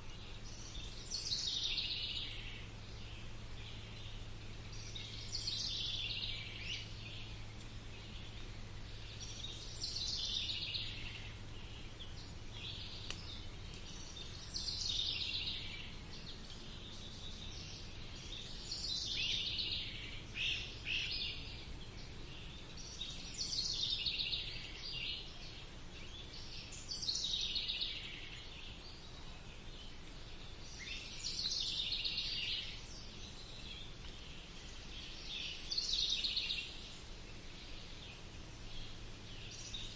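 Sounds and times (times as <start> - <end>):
low background hum: 0.0 - 39.9
songbird singing: 0.0 - 39.9.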